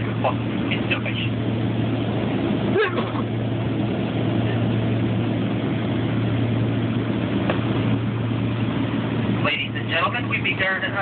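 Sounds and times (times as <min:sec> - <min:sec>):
airliner cabin drone: 0:00.0 - 0:11.0
constant low hum: 0:00.0 - 0:11.0.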